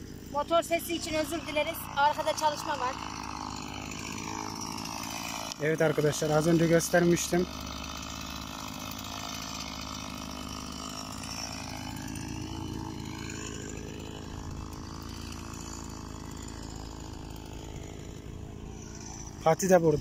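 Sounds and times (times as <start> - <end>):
chainsaw cutting logs: 0.0 - 20.0.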